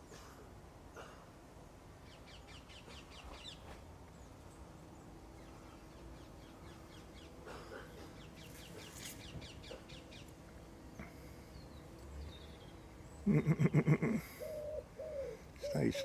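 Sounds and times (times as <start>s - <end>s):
small birds chirping: 2.0s - 16.0s.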